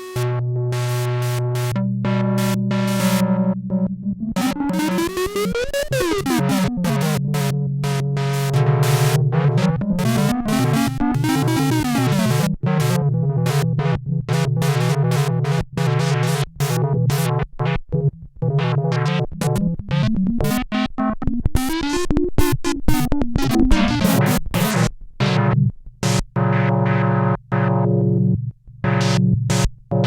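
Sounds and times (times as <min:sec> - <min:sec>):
synthesizer bass and chords: 0:00.0 - 0:30.0.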